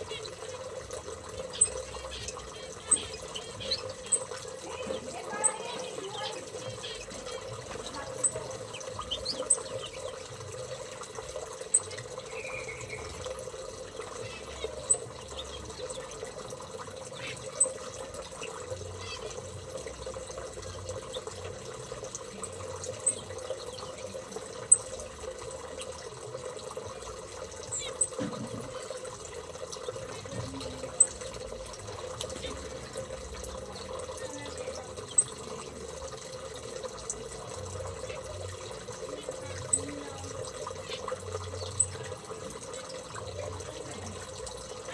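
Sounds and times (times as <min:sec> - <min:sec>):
cage bird chirping: 0:00.0 - 0:44.9.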